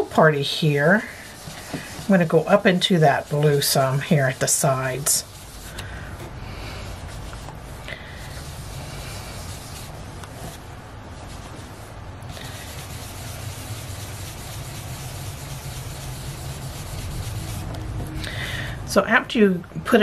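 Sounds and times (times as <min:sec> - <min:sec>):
brush scrubbing on paper: 0:00.0 - 0:18.1.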